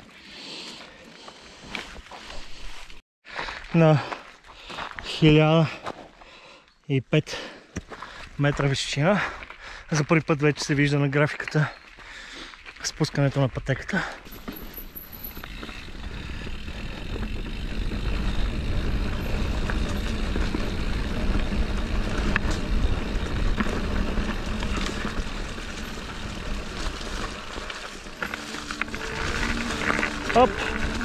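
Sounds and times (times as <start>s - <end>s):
bike tyres on dirt trail: 0.0s - 6.6s, 7.4s - 31.0s.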